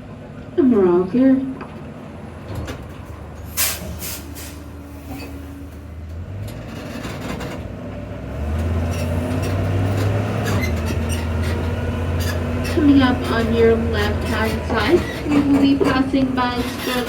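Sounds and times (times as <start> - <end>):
tram engine humming: 0.0 - 17.0.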